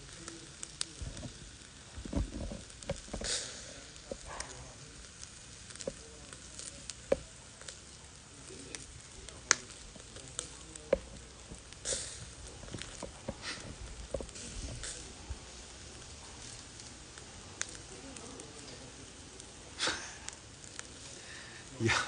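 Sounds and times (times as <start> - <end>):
chicken wings sizzling on charcoal: 0.0 - 22.0
grill pops and crackles: 0.0 - 22.0.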